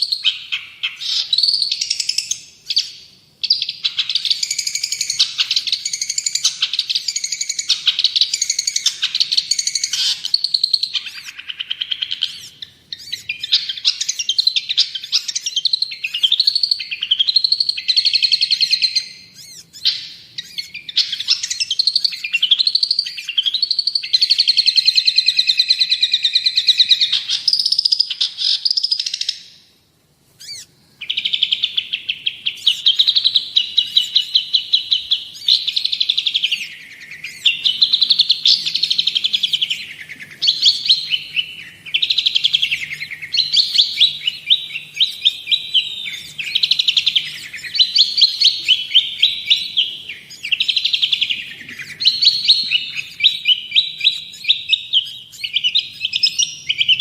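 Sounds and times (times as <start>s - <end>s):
bird singing chattering song: 0.0s - 29.6s, 30.4s - 57.0s.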